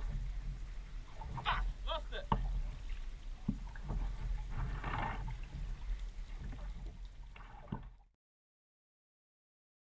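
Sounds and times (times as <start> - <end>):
water splashing around kayak: 0.0 - 8.2.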